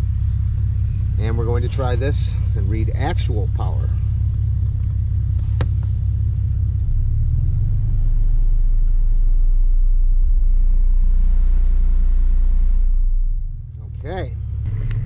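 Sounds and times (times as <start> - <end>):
deep bass drone from subwoofers: 0.0 - 15.0.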